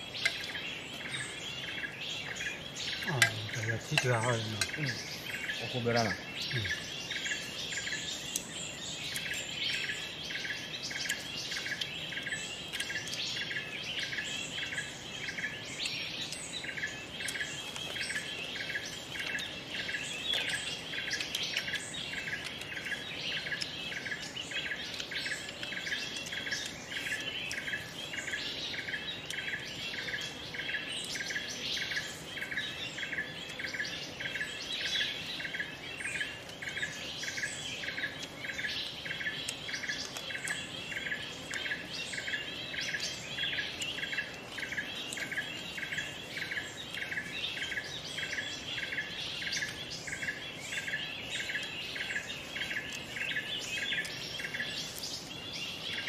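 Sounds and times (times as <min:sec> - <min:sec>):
forest bird calls and chirps: 0:00.0 - 0:56.0.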